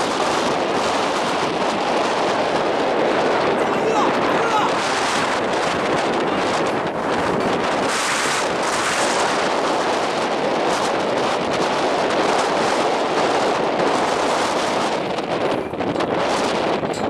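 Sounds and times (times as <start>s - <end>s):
wind on the microphone: 0.0s - 17.0s.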